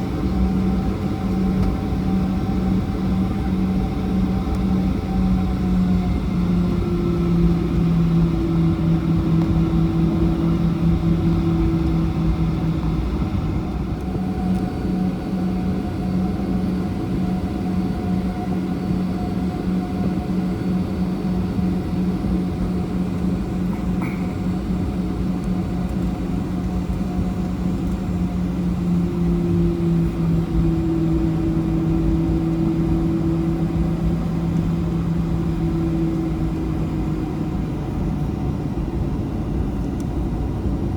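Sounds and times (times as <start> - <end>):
jet engines idling: 0.0 - 40.9.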